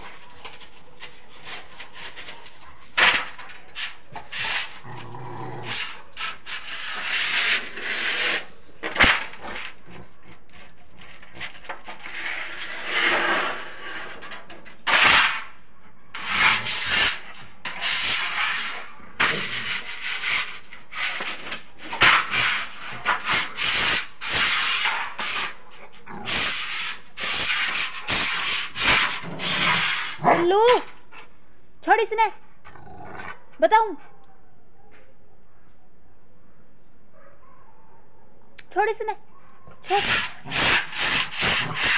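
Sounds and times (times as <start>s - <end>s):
dog paws scraping tiled floor: 0.0s - 31.3s, 39.6s - 41.9s.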